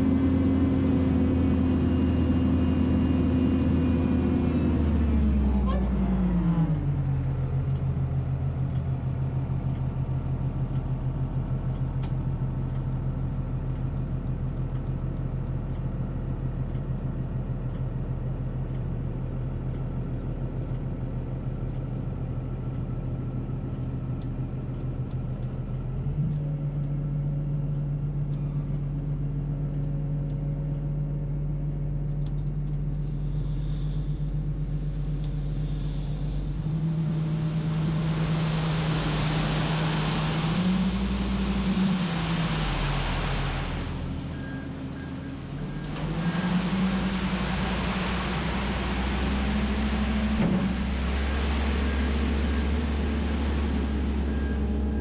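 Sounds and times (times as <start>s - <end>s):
heavy equipment diesel engine: 0.0s - 55.0s.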